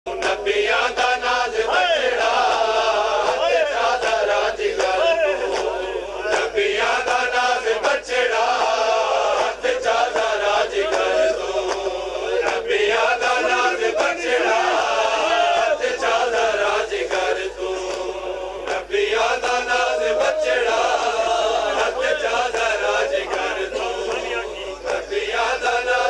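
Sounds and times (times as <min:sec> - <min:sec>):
men chanting a lament: 0:00.1 - 0:26.0.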